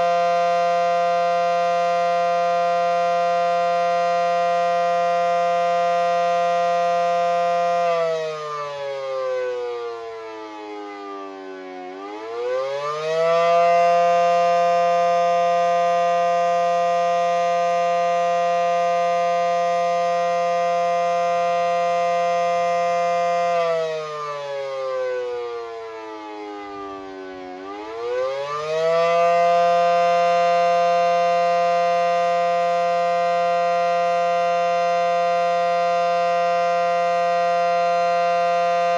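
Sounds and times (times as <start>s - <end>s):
dual-tone warning siren: 0.0s - 38.9s.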